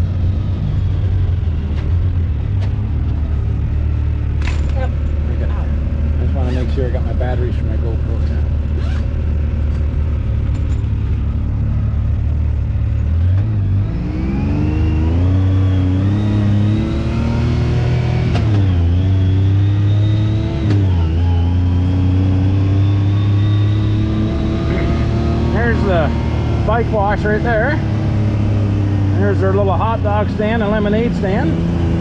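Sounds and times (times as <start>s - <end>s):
utility vehicle engine: 0.0s - 32.0s.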